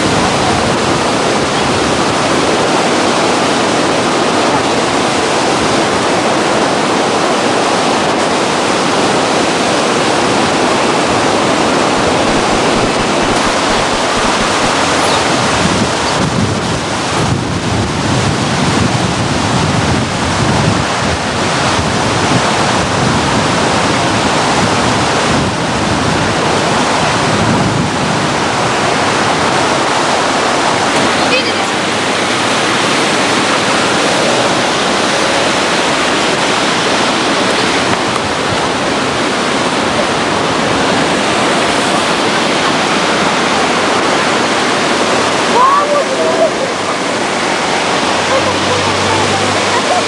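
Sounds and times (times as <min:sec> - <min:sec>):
floodwater rushing: 0:00.0 - 0:50.0
wind buffeting microphone: 0:00.0 - 0:50.0.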